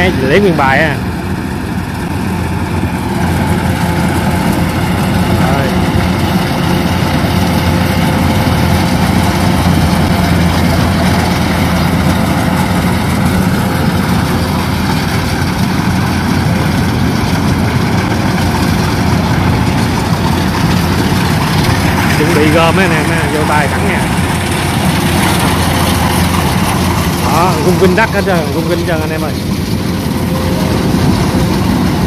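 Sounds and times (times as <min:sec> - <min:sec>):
combine harvester engine humming: 0:00.0 - 0:32.0.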